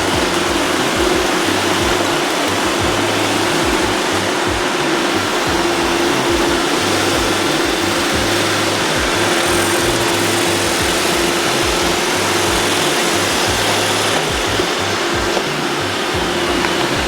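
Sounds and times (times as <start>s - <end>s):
robot vacuums whirring: 0.0s - 17.0s.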